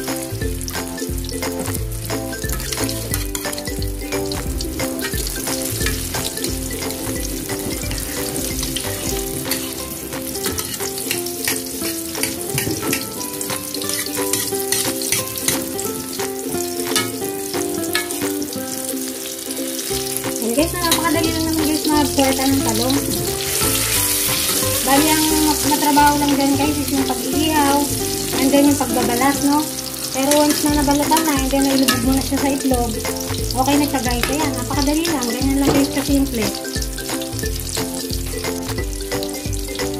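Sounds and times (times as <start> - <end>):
background music: 0.0 - 39.9
food frying in hot oil: 0.0 - 39.9.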